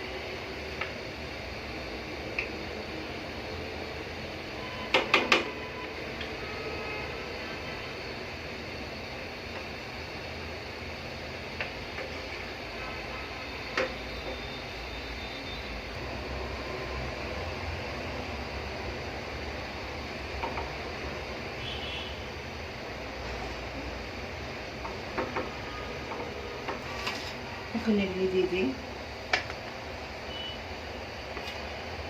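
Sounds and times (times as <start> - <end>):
pot of water hissing on stove: 0.0 - 32.0.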